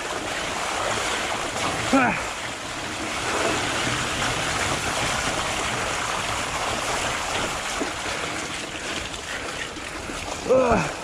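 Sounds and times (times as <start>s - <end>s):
bike tyres rolling on mud: 0.0s - 11.0s
wind on microphone: 0.0s - 11.0s.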